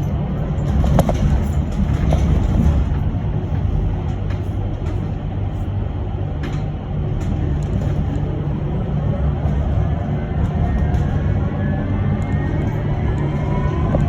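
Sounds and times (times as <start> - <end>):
low rumble of tyres and road: 0.0 - 14.0.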